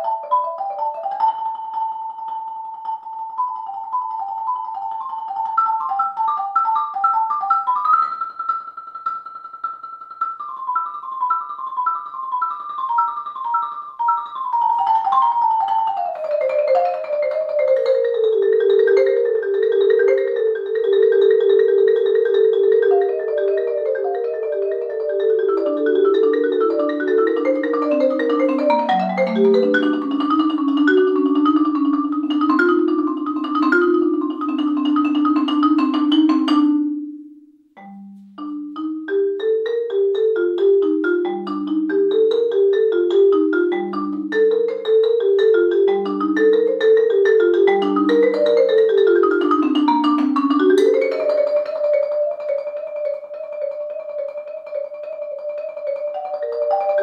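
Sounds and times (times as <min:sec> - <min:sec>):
marimba playing fast runs: 0:00.0 - 0:57.0.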